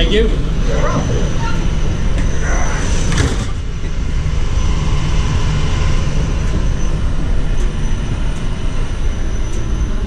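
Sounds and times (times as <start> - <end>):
train coach rumbling on track: 0.0 - 10.0.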